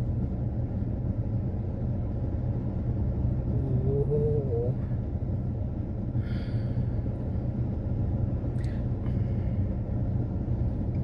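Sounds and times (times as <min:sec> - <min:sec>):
low rumble inside a car: 0:00.0 - 0:11.0.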